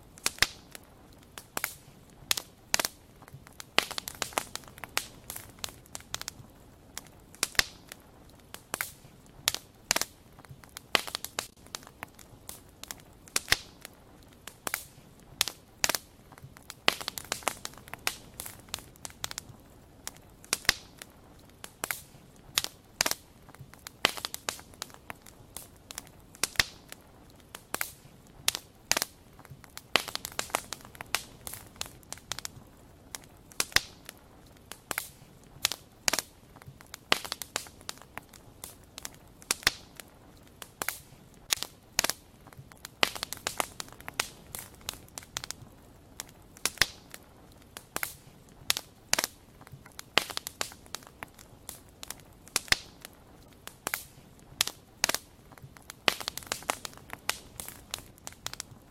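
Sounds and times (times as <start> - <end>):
campfire crackling: 0.0 - 58.9
faint steady hiss: 0.0 - 58.9.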